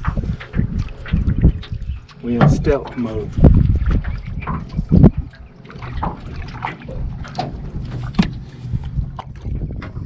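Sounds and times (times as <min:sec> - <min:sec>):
paddle splashing in water: 0:00.0 - 0:10.0
water trickling: 0:00.0 - 0:10.0.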